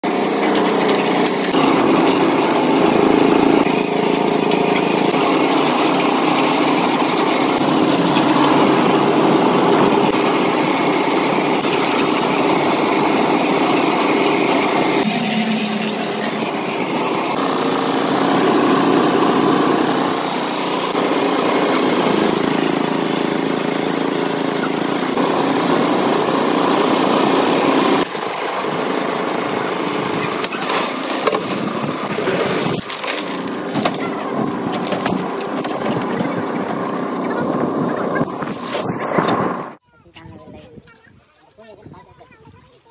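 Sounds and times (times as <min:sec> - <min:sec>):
concrete mixer engine running: 0:00.0 - 0:40.6.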